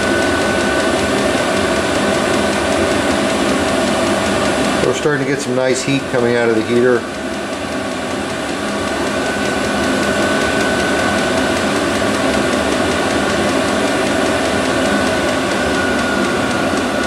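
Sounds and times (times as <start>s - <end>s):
diesel heater blower and burner: 0.0s - 17.0s
faint regular ticking: 0.0s - 17.0s
steady whine: 0.0s - 17.0s.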